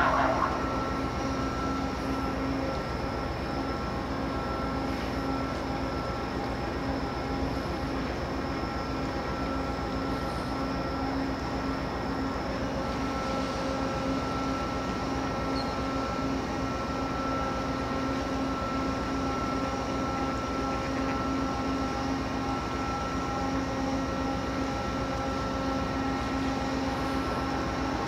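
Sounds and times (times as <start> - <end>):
ship engines droning: 0.0 - 28.0.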